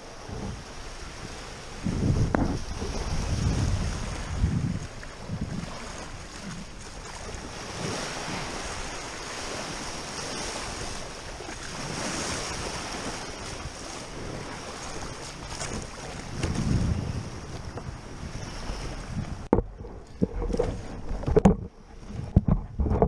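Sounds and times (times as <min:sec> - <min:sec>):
small surf breaking: 0:00.0 - 0:22.9
wind buffeting microphone: 0:00.1 - 0:23.0.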